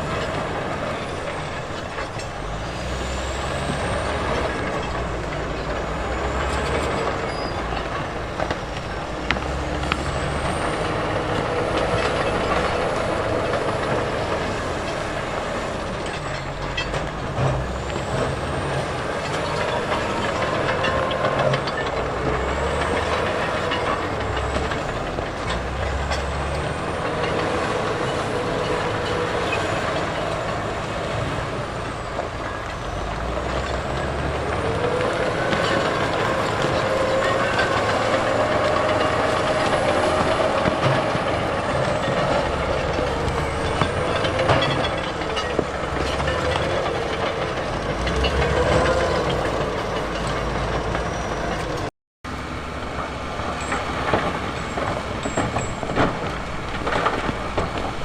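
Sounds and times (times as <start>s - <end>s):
diesel construction machinery working: 0.0s - 58.0s.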